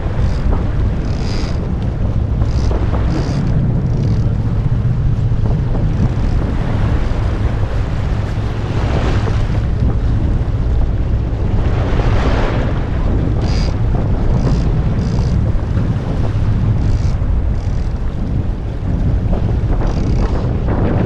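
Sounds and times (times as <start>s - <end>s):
low rumble of boat and sea: 0.0s - 21.0s
wind buffeting microphone: 0.0s - 21.0s.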